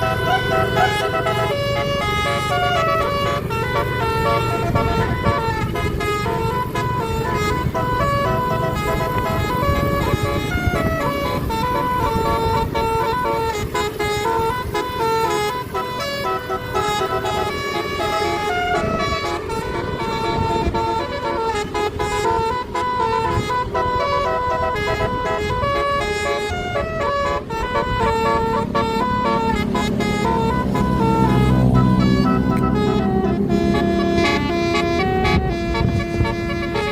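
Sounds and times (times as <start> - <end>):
bus engine rumble: 0.0 - 36.9
musical air horn melody: 0.0 - 36.9.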